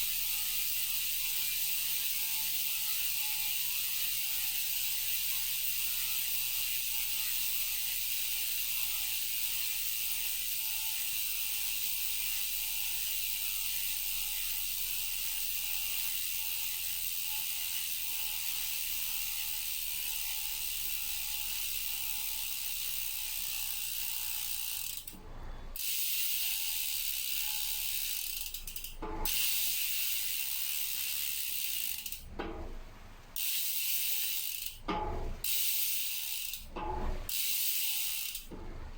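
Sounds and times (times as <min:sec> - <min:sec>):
bicycle hub freewheel buzzing: 0:00.0 - 0:32.6, 0:33.3 - 0:38.9.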